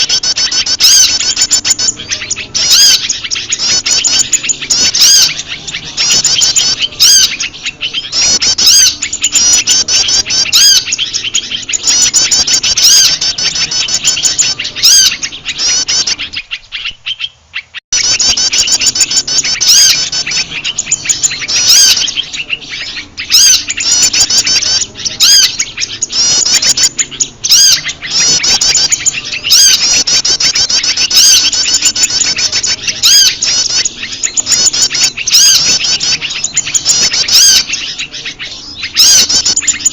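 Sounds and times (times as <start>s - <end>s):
bird calls: 0.0s - 39.9s
small birds chirping and trilling: 0.0s - 39.9s.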